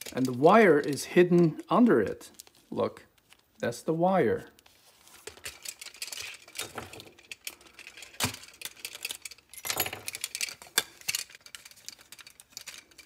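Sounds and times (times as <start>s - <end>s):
rustling handling noise: 0.0s - 3.7s, 4.3s - 13.0s.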